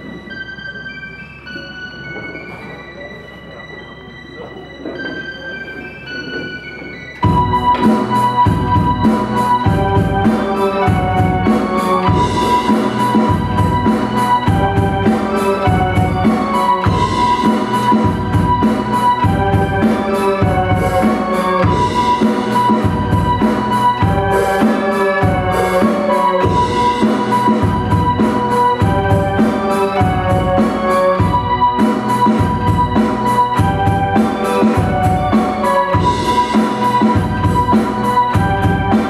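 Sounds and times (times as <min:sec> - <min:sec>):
electric violin melody: 0:00.0 - 0:39.0
keyboard: 0:00.0 - 0:39.0
electronic drum beat: 0:07.2 - 0:39.0.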